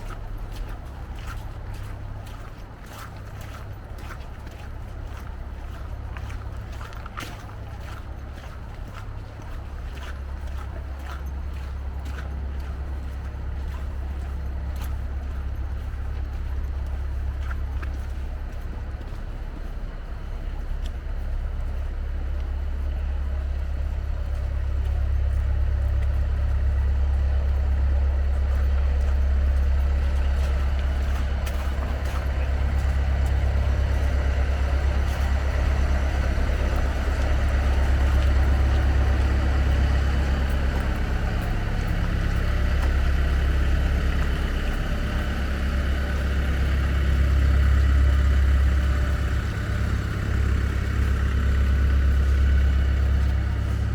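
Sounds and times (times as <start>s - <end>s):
vehicle engines rumbling: 0.0s - 53.9s.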